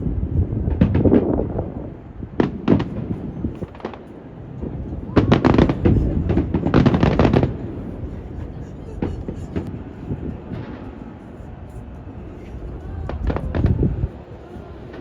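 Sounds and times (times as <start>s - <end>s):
fireworks bangs and crackling: 0.0s - 15.0s
wind rumbling on microphone: 0.0s - 15.0s.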